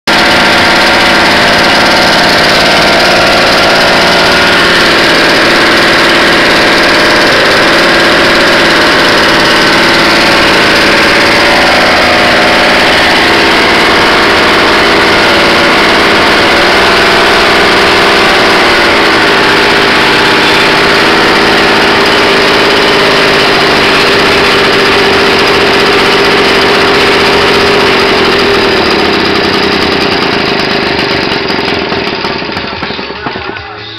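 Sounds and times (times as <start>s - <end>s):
single-cylinder engine running: 0.0s - 33.9s.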